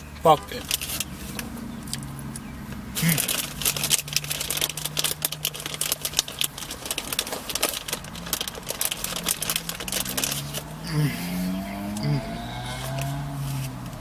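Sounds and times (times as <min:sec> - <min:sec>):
crunchy cookie chewing: 0:00.6 - 0:13.8.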